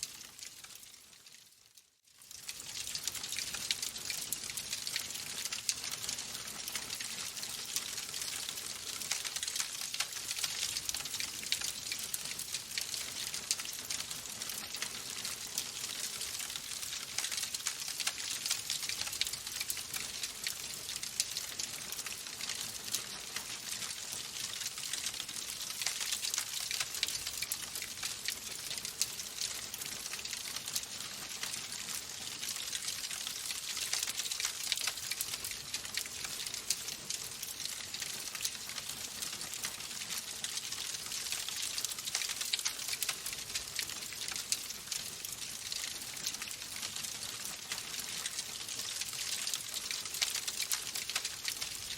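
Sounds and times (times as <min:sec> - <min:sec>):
wood fire crackling: 0:02.2 - 0:51.9.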